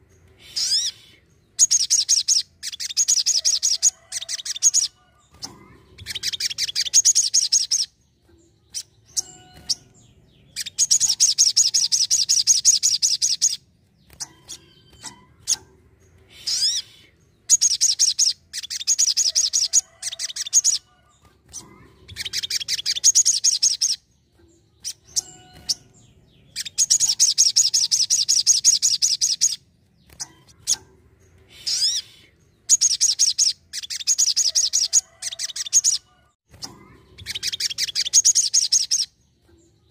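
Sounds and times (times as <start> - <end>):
bird high trilling song: 0.0 - 39.9.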